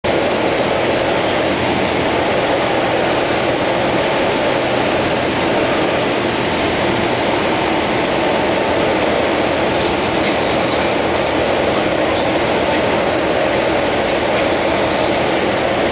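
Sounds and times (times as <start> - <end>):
airflow rushing: 0.0 - 15.9
propeller engine droning: 0.0 - 15.9.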